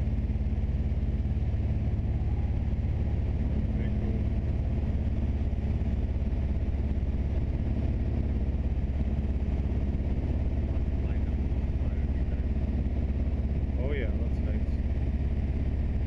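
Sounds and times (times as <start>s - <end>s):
plane engine and propeller droning: 0.0s - 16.0s.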